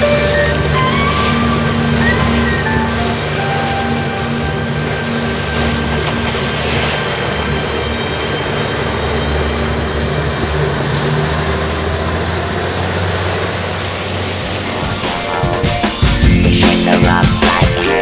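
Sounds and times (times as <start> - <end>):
outboard engine drone: 0.0 - 18.0
rush of wind and water: 0.0 - 18.0.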